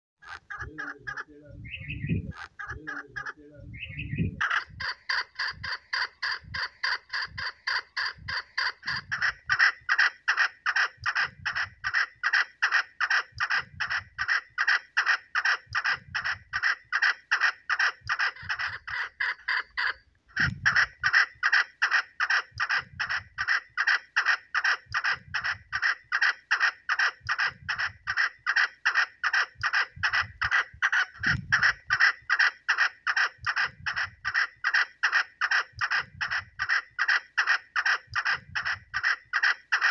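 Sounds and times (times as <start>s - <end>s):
partridge clucking calls: 0.2s - 39.9s.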